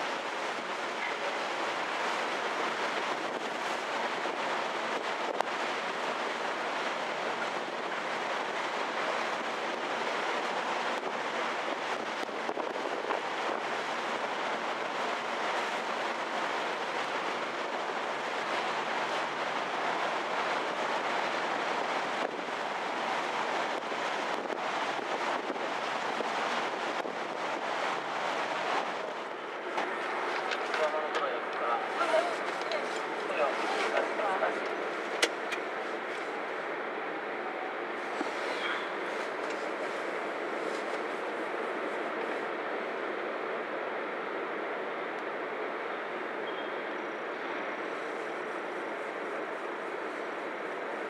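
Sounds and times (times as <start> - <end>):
wind buffeting microphone: 0.0 - 45.5
wind and sea spray rushing: 0.0 - 46.4.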